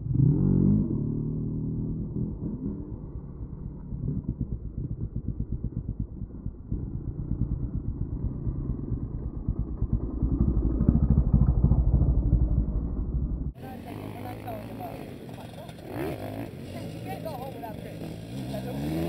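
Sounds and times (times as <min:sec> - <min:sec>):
two-stroke motorcycle engine: 0:00.0 - 0:19.0.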